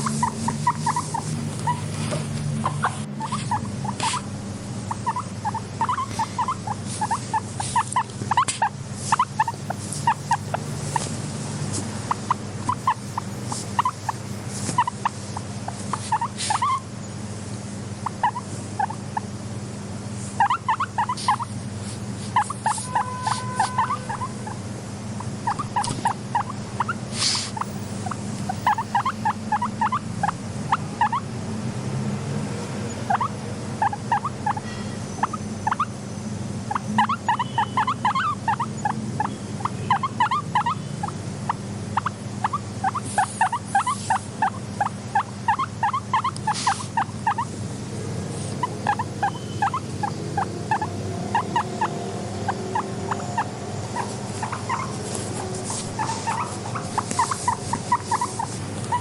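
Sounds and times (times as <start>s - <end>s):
guinea pig squeaking: 0.0s - 17.0s, 18.0s - 19.3s, 20.2s - 31.3s, 32.9s - 36.0s, 36.6s - 47.7s, 48.3s - 59.0s
steady low hum: 0.0s - 59.0s.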